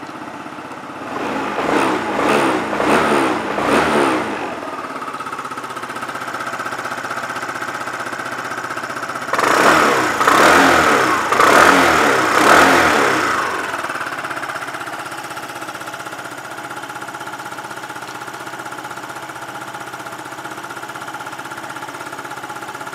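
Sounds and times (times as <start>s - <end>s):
scooter engine idling and revving: 0.0s - 22.9s.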